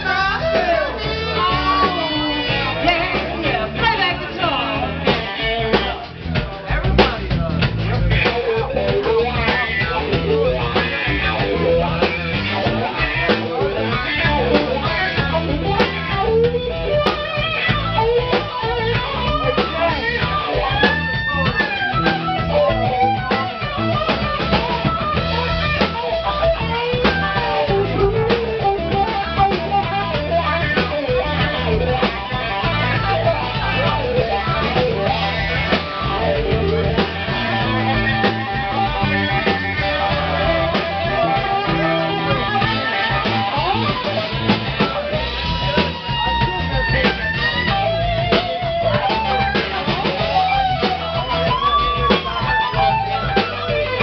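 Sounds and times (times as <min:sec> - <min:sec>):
electric guitar bent notes: 0:00.0 - 0:54.0
live rock band playing: 0:00.0 - 0:54.0.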